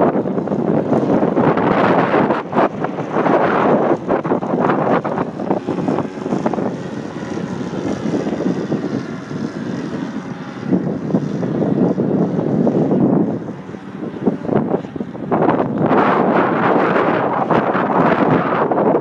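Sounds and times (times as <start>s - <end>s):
model plane motor droning: 0.0s - 19.0s
wind buffeting microphone: 0.0s - 19.0s.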